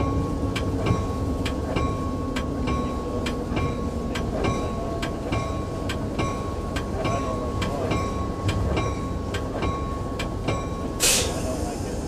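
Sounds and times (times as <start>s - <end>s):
wheels clicking over rail joints: 0.0s - 11.8s
diesel locomotive rumble: 0.0s - 12.0s.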